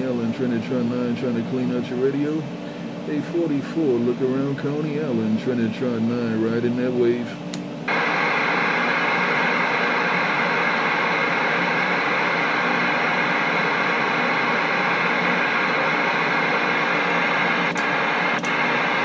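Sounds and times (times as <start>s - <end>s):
radio static hiss: 3.1s - 19.0s.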